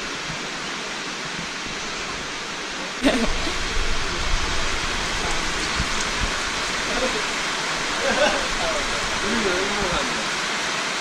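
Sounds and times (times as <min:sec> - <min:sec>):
rain hiss: 0:00.0 - 0:11.0.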